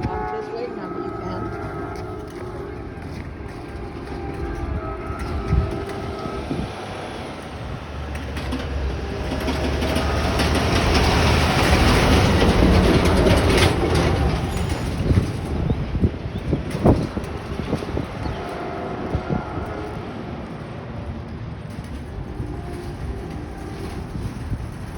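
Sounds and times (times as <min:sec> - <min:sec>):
diesel locomotive engine hum: 0:00.0 - 0:24.9
train wheels rushing on rails: 0:00.0 - 0:24.9.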